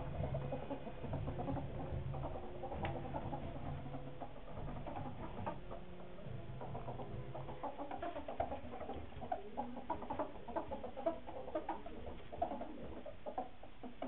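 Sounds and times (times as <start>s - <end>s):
ferrets clucking chatter: 0.0s - 14.0s
light scrabbling and patter: 0.0s - 14.0s.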